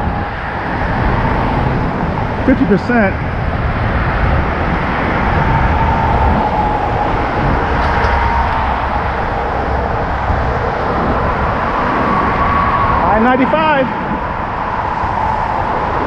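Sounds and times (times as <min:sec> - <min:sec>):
highway traffic roar: 0:00.0 - 0:16.0.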